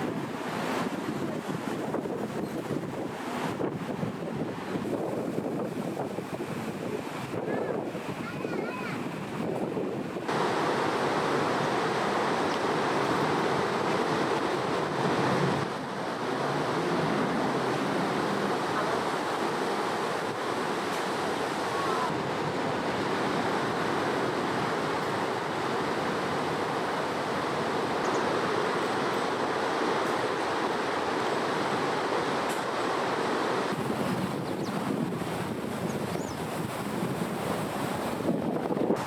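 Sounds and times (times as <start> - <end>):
river rushing: 0.0 - 39.0.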